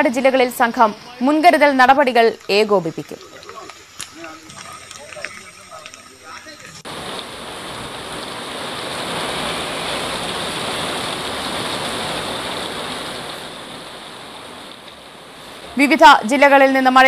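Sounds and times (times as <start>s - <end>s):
heavy rain on trees: 0.0s - 17.0s.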